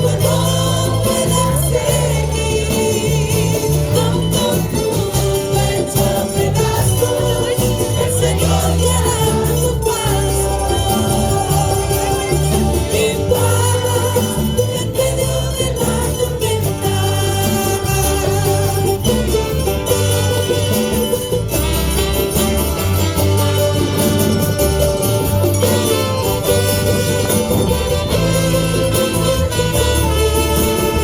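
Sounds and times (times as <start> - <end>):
held bass notes: 0.0 - 31.0
high rhythmic jingle: 0.0 - 31.0
live band playing praise song: 0.0 - 31.0.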